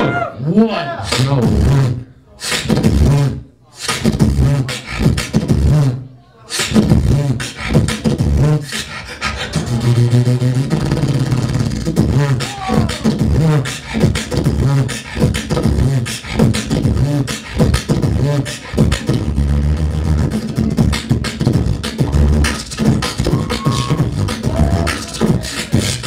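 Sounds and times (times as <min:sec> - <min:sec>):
beatboxing into a microphone: 0:00.0 - 0:26.0.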